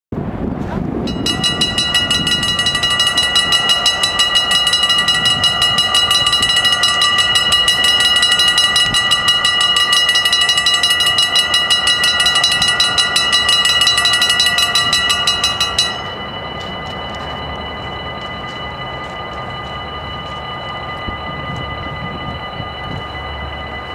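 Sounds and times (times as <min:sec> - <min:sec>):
level crossing bells ringing: 0:01.1 - 0:23.9.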